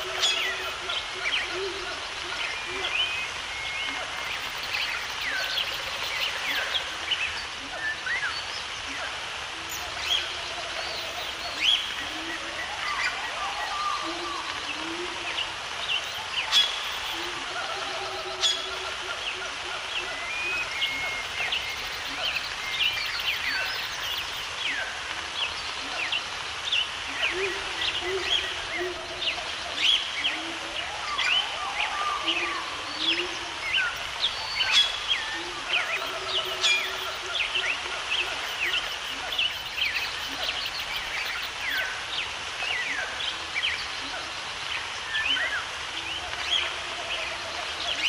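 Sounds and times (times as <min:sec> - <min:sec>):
steady background hiss: 0:00.0 - 0:48.0
wild birds chirping and whistling: 0:00.0 - 0:48.0.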